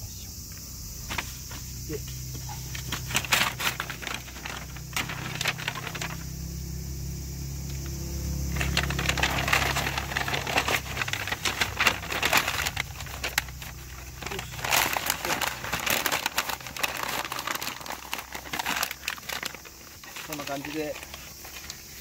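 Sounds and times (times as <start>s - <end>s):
masking paper crackling: 1.1s - 6.4s, 7.7s - 22.0s.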